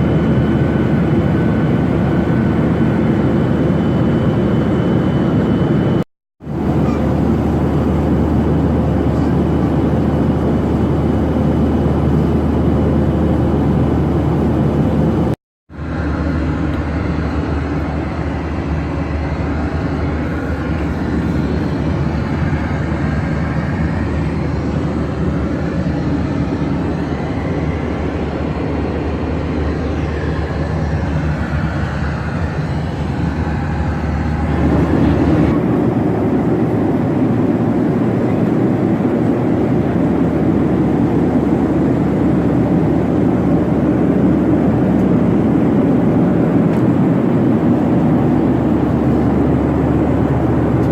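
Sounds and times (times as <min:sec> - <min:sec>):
airflow past fuselage: 0:00.0 - 0:50.9
jet engines roaring: 0:00.0 - 0:50.9.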